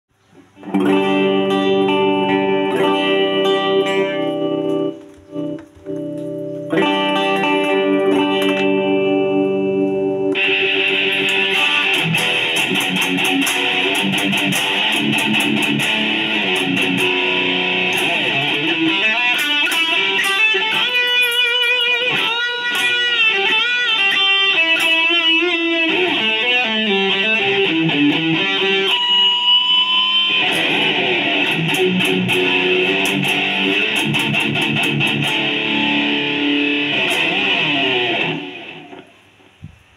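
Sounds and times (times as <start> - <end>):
electric guitar: 0.2 - 39.9.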